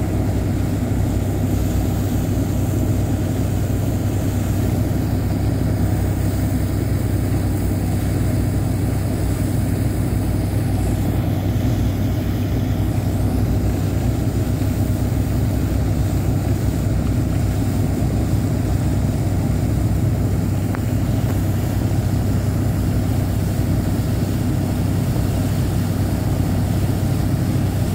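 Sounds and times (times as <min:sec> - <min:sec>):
boat engine running: 0:00.0 - 0:27.9.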